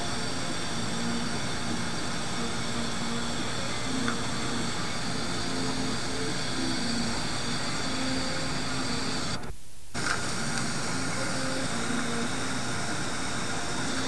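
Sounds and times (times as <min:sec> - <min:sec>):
steady hissing noise: 0:00.0 - 0:14.0.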